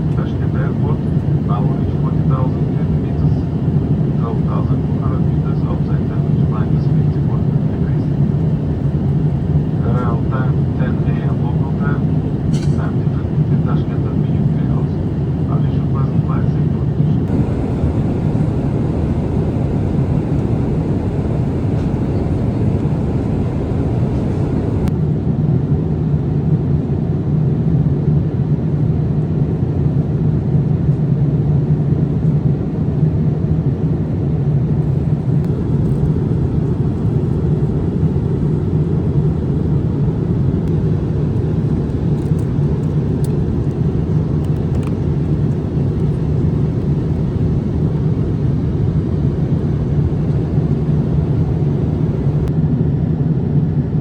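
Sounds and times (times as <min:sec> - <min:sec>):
airplane cabin noise: 0:00.0 - 0:25.0, 0:34.2 - 0:52.5.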